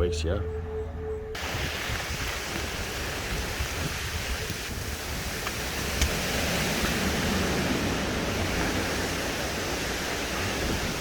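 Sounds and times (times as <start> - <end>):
steady rushing noise: 1.4 - 11.0.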